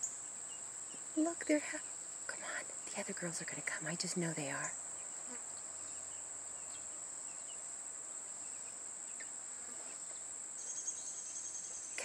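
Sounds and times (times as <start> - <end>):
insects high-pitched drone: 0.0 - 12.0
lower pulsing insect sound: 0.0 - 12.0.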